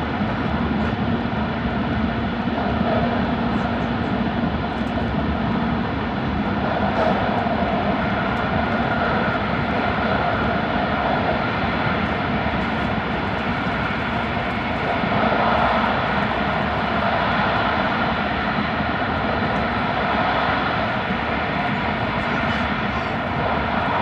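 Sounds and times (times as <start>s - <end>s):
air roar in tunnel: 0.0s - 24.0s
train wheel-on-rail rumble: 0.0s - 24.0s.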